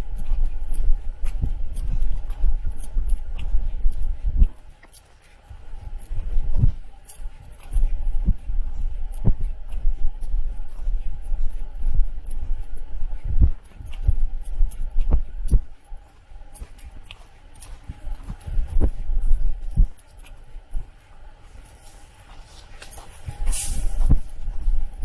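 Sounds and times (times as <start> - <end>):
wind buffeting microphone: 0.0 - 4.8, 5.5 - 20.0, 23.2 - 25.0
soft footsteps on trail: 0.0 - 25.0.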